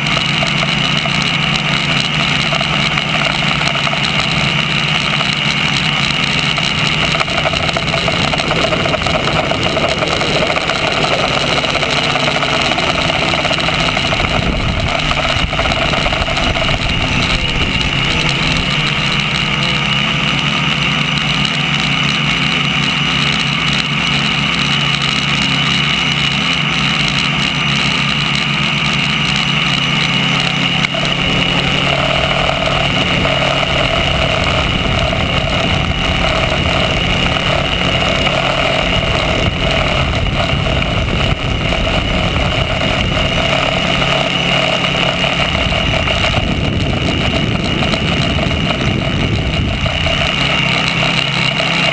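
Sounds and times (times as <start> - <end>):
drone motors buzzing whine: 0.0 - 51.9.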